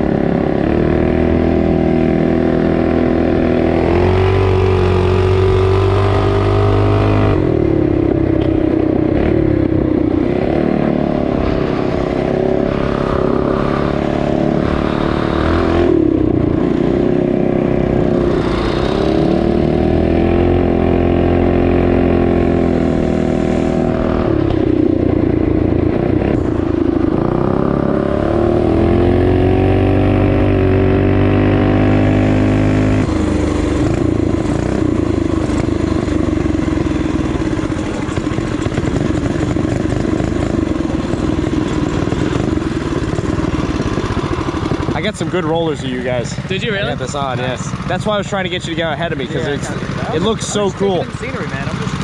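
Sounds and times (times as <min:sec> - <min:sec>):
motorbike engines revving: 0:00.0 - 0:52.0.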